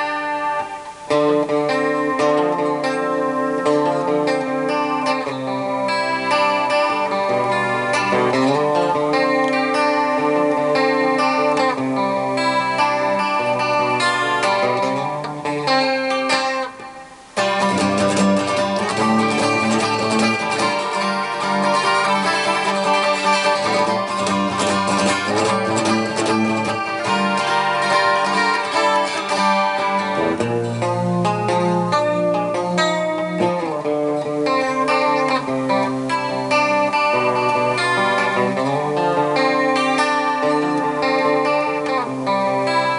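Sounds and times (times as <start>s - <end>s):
instrumental music: 0.0s - 42.9s.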